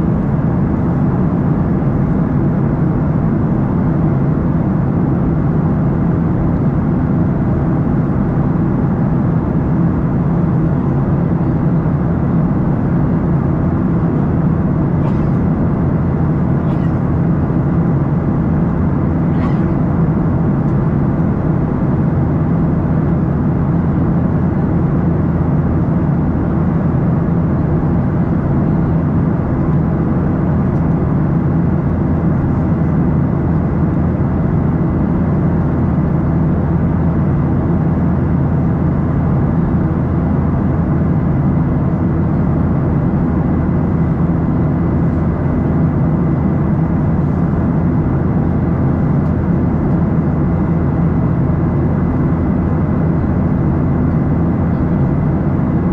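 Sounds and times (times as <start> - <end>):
airplane cabin engine roar: 0.0 - 55.9.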